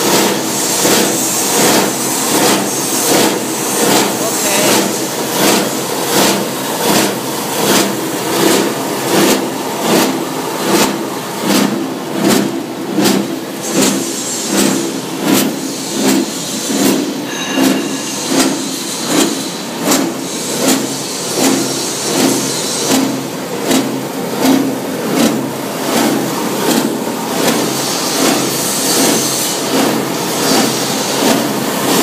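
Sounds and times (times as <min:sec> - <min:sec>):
wire granulator running: 0:00.0 - 0:32.0.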